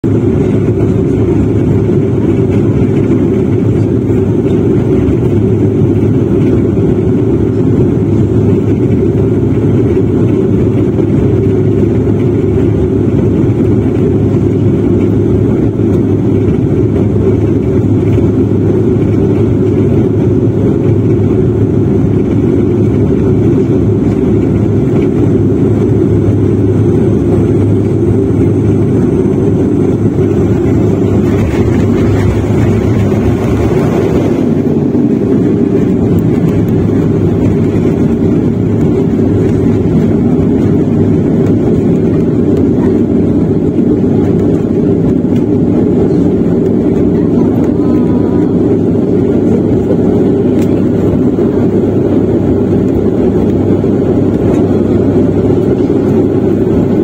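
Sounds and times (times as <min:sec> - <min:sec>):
low hum: 0:00.0 - 0:57.0
turboprop engines droning in cabin: 0:00.0 - 0:57.0.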